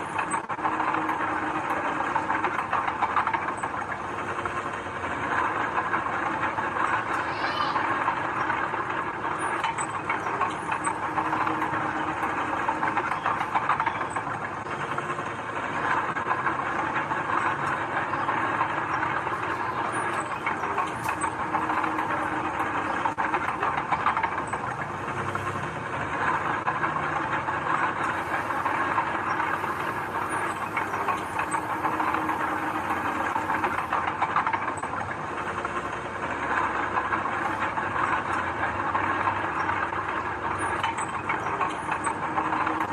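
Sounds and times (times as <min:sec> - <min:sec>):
heavy diesel machinery running: 0:00.0 - 0:42.9
rattling and clanking: 0:00.0 - 0:42.9.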